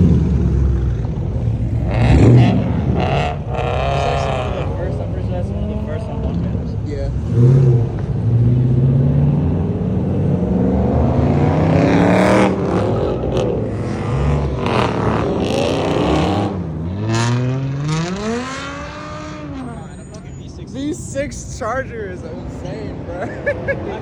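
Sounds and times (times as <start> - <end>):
car engine revving and accelerating: 0.0 - 20.6.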